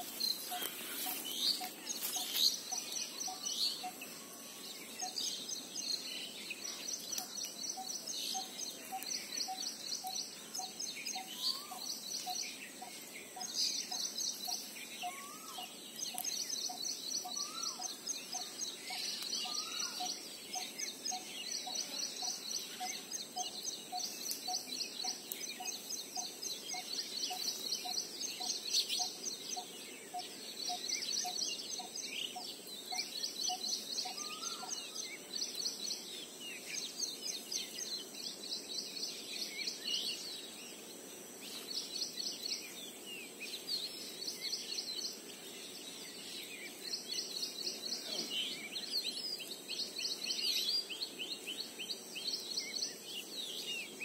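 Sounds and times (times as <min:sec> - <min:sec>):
birds chirping in trills: 0:00.0 - 0:54.0.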